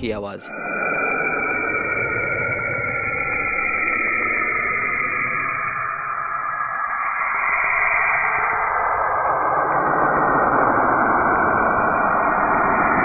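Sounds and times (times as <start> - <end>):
steady rushing hissing noise: 0.0 - 13.0.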